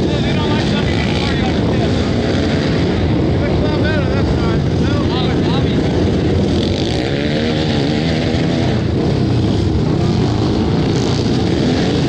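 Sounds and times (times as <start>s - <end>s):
motorcycle engine running hard: 0.0s - 12.0s.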